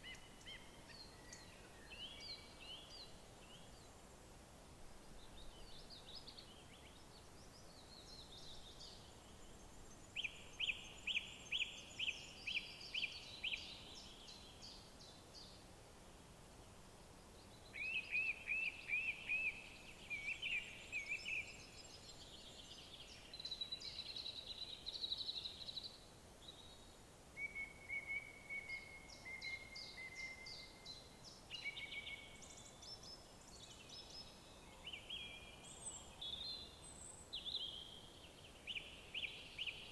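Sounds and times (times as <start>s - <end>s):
songbirds singing: 0.0s - 4.1s, 5.1s - 15.7s, 16.6s - 39.9s
faint steady hiss: 0.0s - 39.9s.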